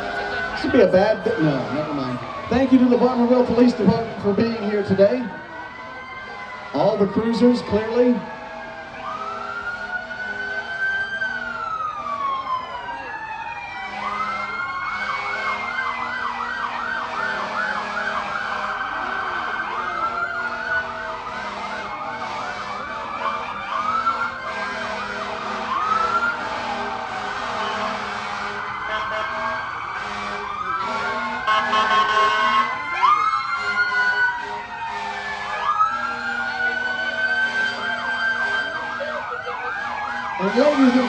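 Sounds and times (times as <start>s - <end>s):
police sirens wailing: 0.0s - 41.0s
siren yelp warble: 0.0s - 41.0s.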